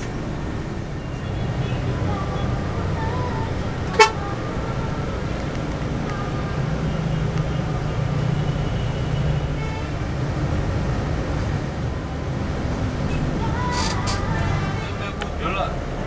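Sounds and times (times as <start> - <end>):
coach engine drone: 0.0 - 16.0
road and tyre noise: 0.0 - 16.0.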